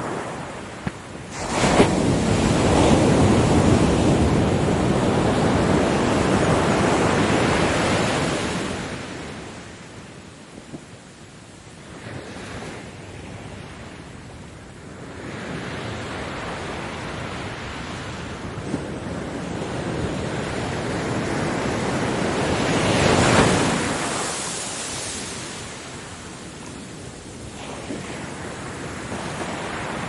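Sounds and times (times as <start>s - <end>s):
ocean waves breaking on beach: 0.0s - 30.0s.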